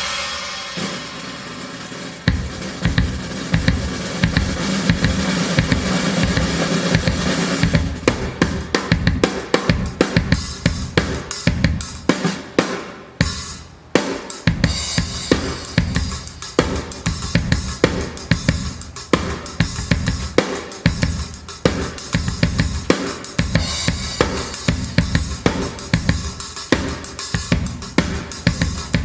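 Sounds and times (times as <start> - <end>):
drum kit playing: 0.0 - 29.0.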